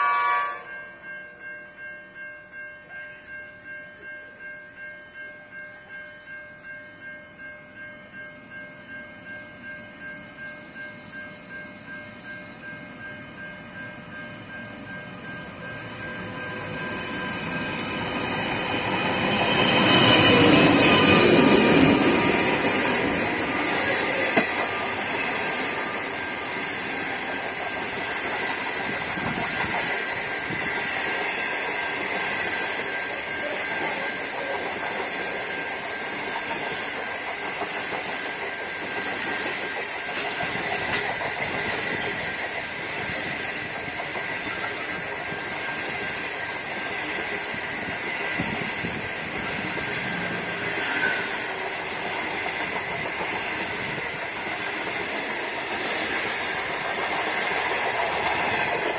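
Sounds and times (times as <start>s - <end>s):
train rumbling past: 7.3s - 58.9s.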